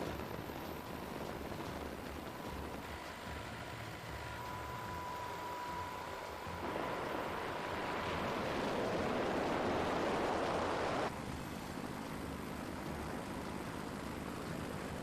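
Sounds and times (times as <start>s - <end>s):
faint low rumble: 0.0s - 15.0s
steady rushing noise: 0.0s - 15.0s.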